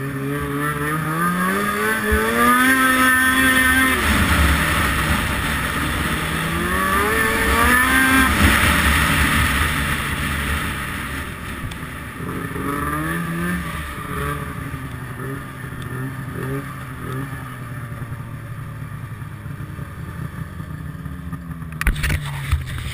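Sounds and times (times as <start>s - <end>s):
snowmobile engine revving: 0.0s - 22.9s.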